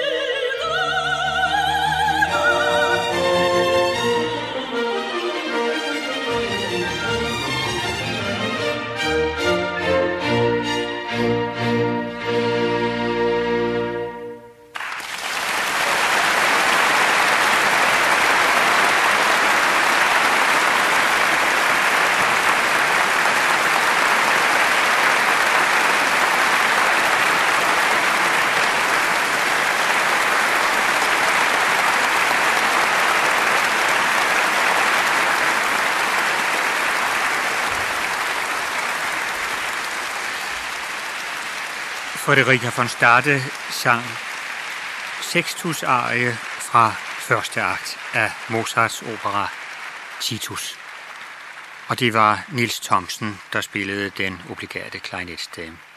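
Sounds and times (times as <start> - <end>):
audience applauding: 1.3 - 9.5, 14.7 - 55.9.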